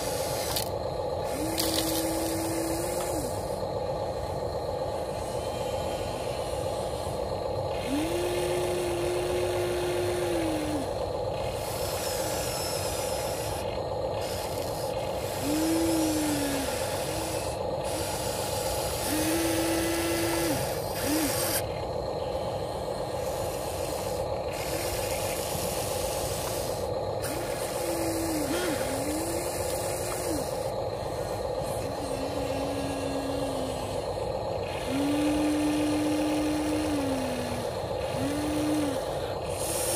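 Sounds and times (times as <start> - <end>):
steady hum: 0.0 - 39.9
toy excavator motors whining: 0.0 - 39.9.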